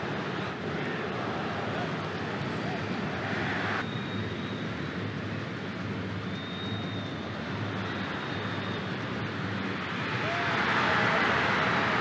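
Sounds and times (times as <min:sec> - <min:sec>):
stadium crowd noise: 0:00.0 - 0:12.0.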